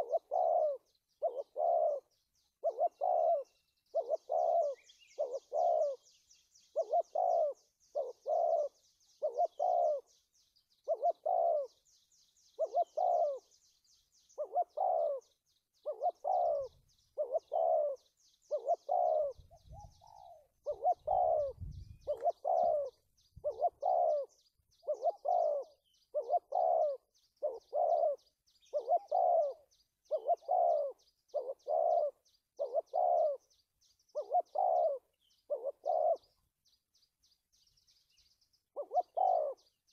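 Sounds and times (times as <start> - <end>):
dove cooing: 0.0 - 10.2, 10.8 - 36.4, 38.7 - 39.9.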